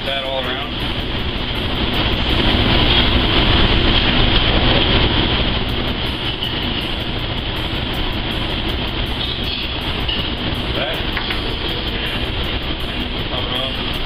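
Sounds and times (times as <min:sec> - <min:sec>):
kitchen machinery and ventilation roar: 0:00.0 - 0:14.0.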